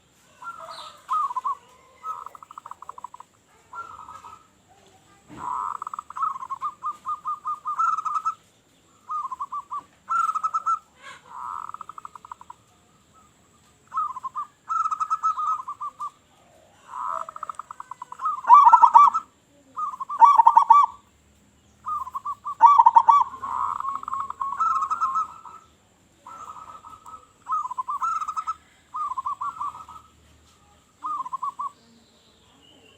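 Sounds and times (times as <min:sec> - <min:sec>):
doves cooing: 0:00.0 - 0:21.1, 0:21.8 - 0:31.8.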